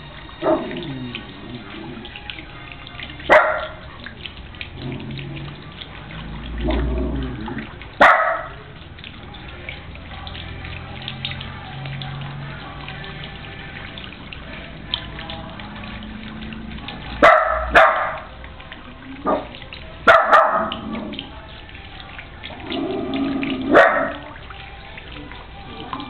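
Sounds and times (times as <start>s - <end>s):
fountain splashing into basin: 0.0s - 26.0s.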